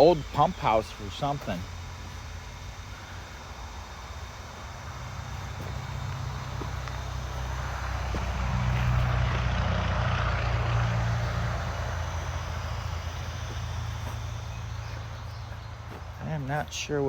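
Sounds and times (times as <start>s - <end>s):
electric pump motor humming: 0.0s - 17.0s.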